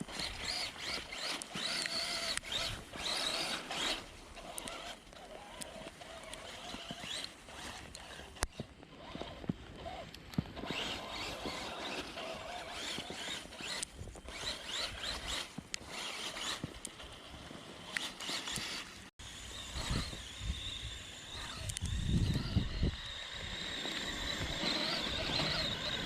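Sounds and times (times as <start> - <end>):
electric motor whining: 0.0 - 26.0
gears and tyres in snow: 0.0 - 26.0.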